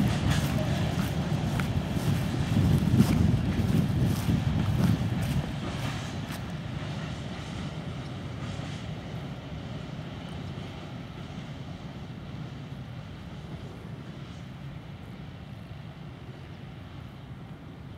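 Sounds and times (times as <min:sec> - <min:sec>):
distant locomotive engine: 0:00.0 - 0:17.9
train wheels rumbling on rails: 0:00.0 - 0:17.9.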